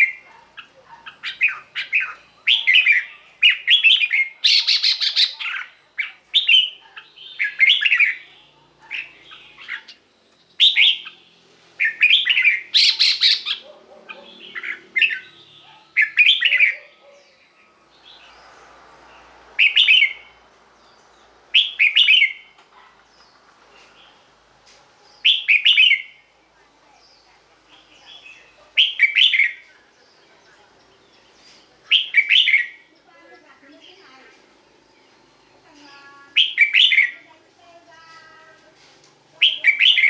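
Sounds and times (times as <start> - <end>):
bird singing warbled phrases: 0.0 - 24.4, 25.0 - 40.0.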